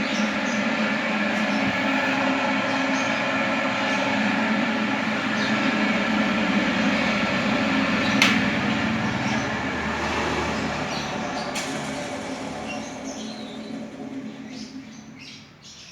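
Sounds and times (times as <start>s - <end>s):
spinner machine motor hum: 0.0s - 15.8s.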